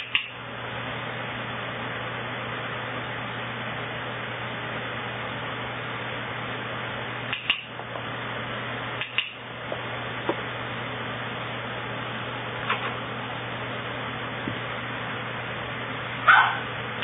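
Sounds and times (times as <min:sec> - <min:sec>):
background hiss and hum: 0:00.0 - 0:17.0.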